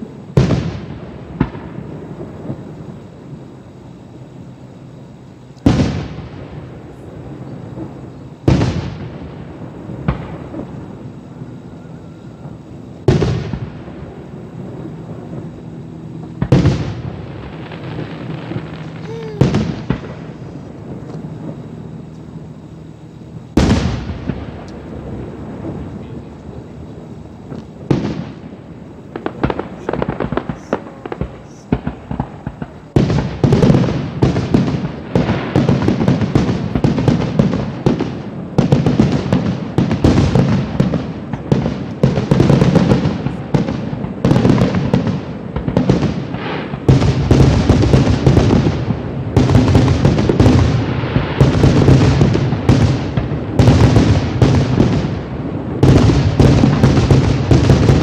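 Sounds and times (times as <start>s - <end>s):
fireworks booms and crackling: 0.0s - 58.0s.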